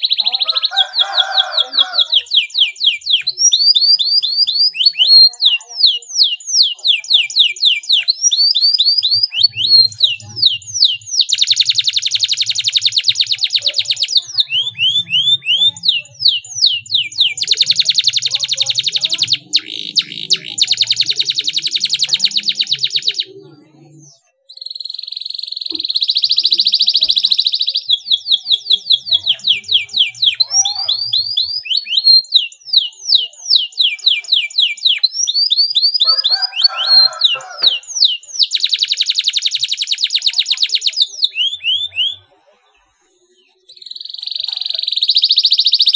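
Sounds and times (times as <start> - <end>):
canary singing: 0.0 - 45.9.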